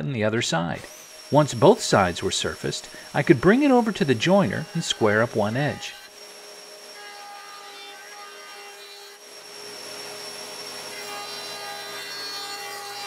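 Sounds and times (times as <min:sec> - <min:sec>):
jointer planing wood: 0:00.8 - 0:13.0.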